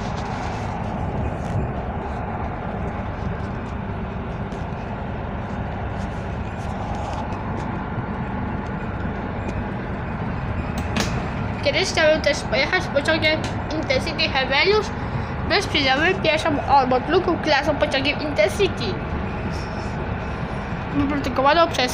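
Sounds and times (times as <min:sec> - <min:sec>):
train interior rumble: 0:00.0 - 0:21.9.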